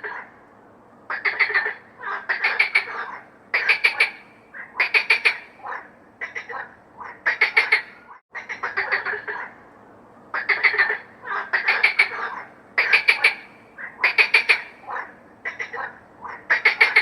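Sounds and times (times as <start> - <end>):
frogs croaking: 1.1 - 9.6, 10.3 - 17.0.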